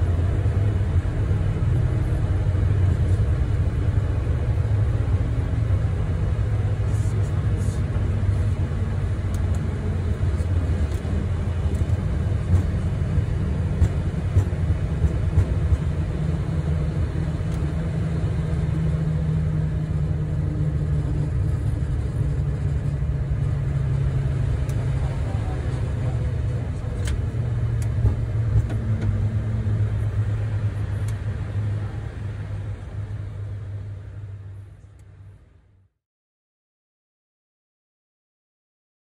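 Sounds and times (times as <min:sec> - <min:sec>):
airliner cockpit low rumble: 0:00.0 - 0:36.0.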